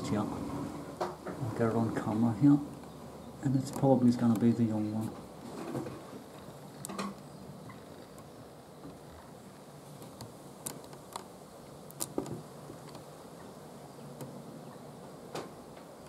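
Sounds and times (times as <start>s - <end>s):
faint steady background noise: 0.0s - 16.0s.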